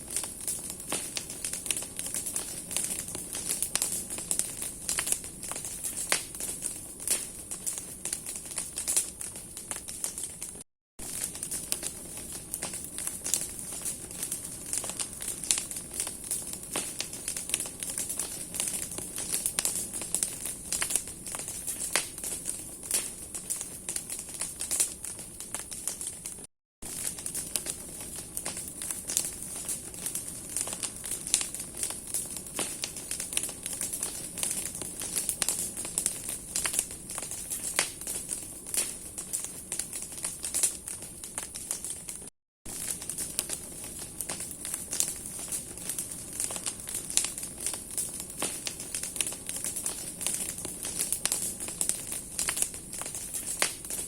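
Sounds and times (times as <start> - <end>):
bonfire crackling: 0.0 - 54.0
steady high hiss of fire: 0.0 - 54.0.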